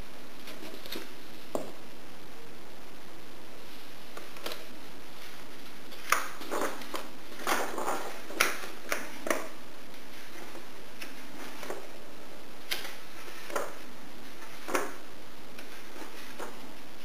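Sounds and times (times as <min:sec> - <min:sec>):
steady hiss: 0:00.0 - 0:17.0
book pages turning: 0:00.4 - 0:01.8, 0:03.7 - 0:12.0, 0:12.6 - 0:16.8.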